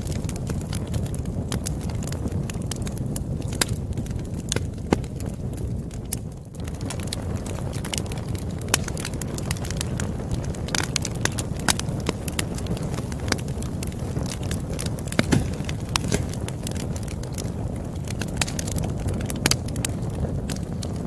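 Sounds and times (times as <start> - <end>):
campfire crackling and popping: 0.0 - 21.0
low rush of burning: 0.0 - 21.0.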